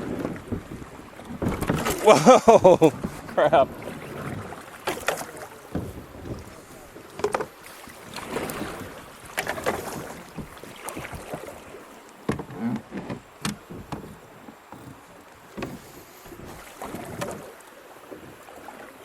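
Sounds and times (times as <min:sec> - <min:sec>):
moving water: 0:00.0 - 0:19.0
paddle splashes and hull knocks: 0:00.0 - 0:19.0.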